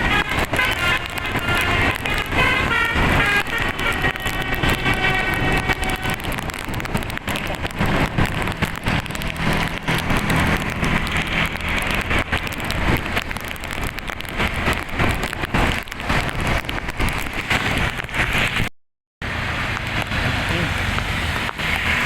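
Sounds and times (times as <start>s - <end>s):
rain falling: 0.0s - 22.0s
vehicle engine hum: 0.0s - 22.0s.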